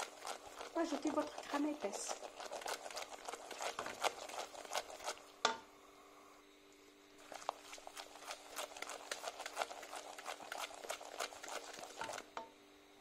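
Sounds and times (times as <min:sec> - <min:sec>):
wooden spoon knocking and scraping pot: 0:00.0 - 0:05.7, 0:07.2 - 0:12.5.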